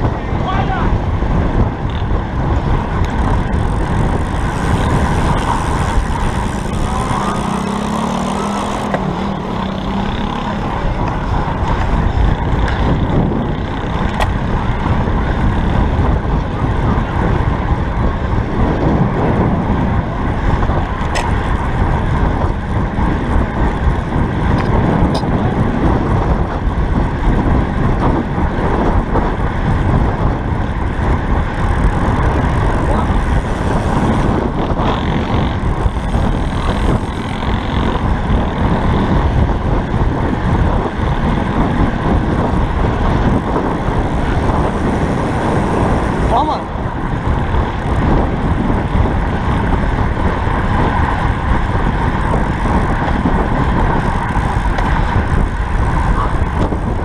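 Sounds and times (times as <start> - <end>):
tyre noise on asphalt: 0.0 - 57.0
wind rushing over microphone: 0.0 - 57.0.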